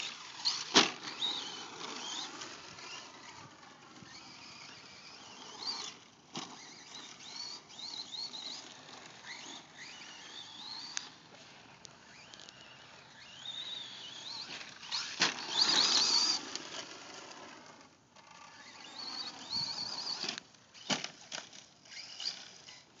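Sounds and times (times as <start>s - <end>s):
tyres spinning in loose dirt: 0.0s - 10.9s, 12.0s - 23.0s
electric motor whining: 0.0s - 23.0s.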